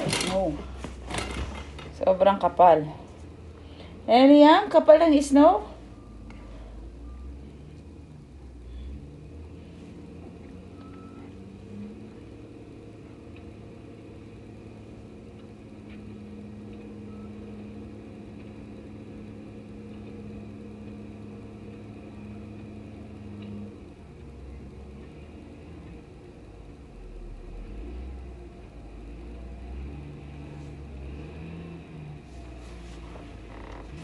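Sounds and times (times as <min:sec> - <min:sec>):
diesel engine rumbling: 0:00.0 - 0:34.0
steady low hum: 0:00.0 - 0:34.0.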